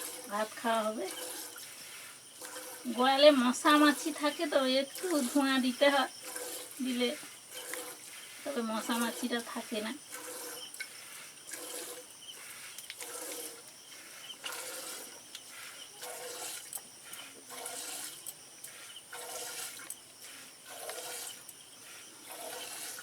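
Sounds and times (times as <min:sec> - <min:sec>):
milk squirting into a pail: 0:00.0 - 0:23.0.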